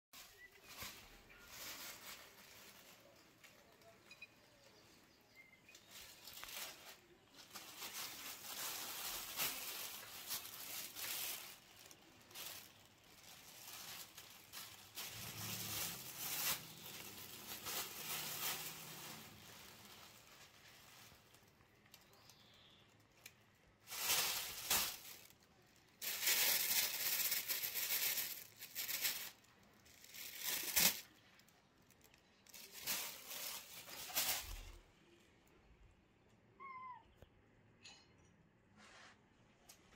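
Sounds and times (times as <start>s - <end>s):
plastic bag rustling: 0.2s - 34.9s.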